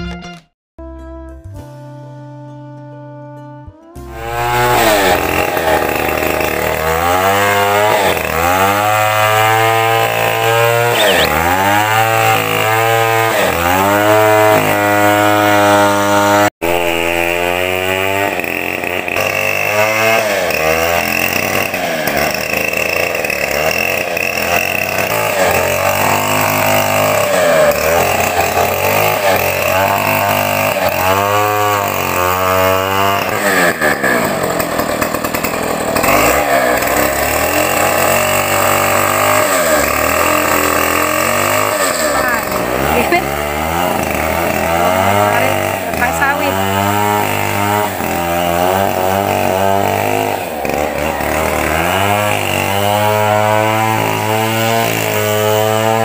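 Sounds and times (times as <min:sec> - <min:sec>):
chainsaw revving and cutting: 0:04.0 - 0:56.0.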